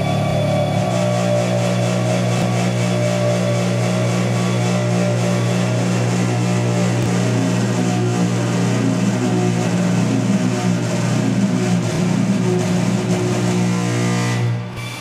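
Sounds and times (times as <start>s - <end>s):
electric motor hum: 0.0s - 14.6s
grinder whining tones: 0.0s - 15.0s.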